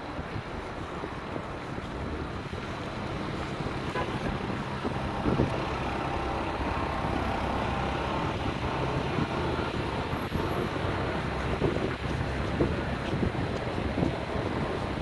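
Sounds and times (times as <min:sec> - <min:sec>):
cars and trucks rumbling past: 0:00.0 - 0:15.0.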